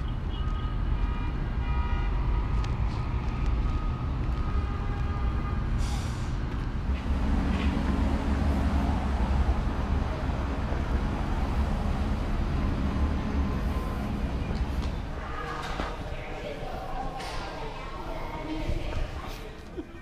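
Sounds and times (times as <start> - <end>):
cars driving past: 0.0 - 19.8.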